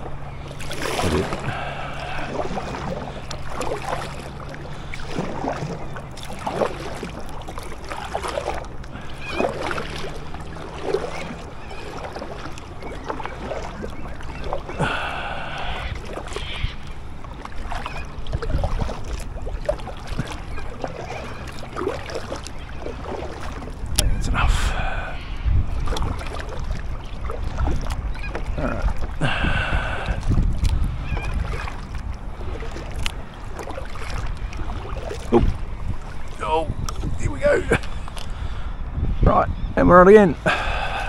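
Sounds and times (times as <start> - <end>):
paddle water strokes: 0.0 - 41.0.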